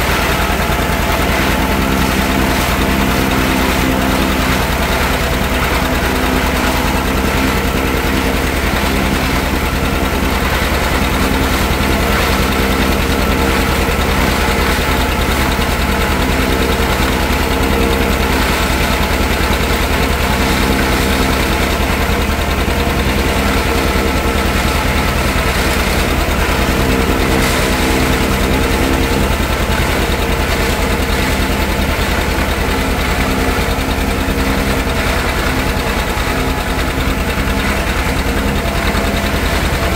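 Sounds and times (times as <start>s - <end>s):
forage chopper cutting corn: 0.0s - 39.9s
tractor engine running under load: 0.0s - 39.9s.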